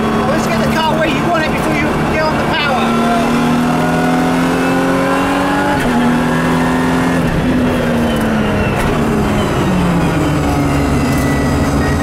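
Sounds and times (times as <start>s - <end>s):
race car engine accelerating: 0.0s - 12.0s
road noise rumble: 0.0s - 12.0s.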